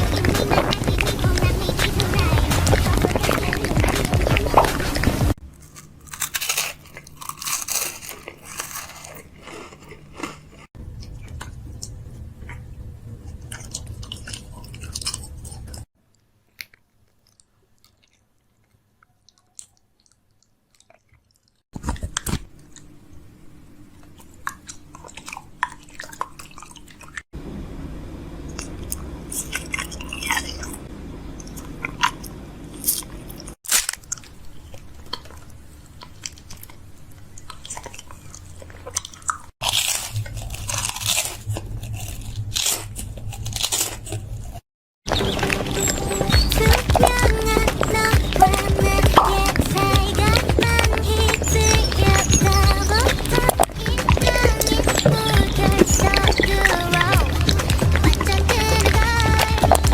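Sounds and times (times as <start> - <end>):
crunchy chewing: 0.0 - 27.3, 28.5 - 59.9.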